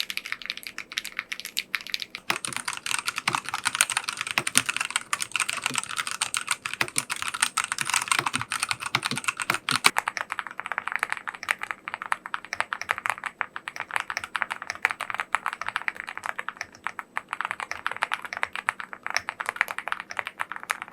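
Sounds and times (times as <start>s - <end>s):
fast mechanical keyboard typing: 0.0s - 20.9s.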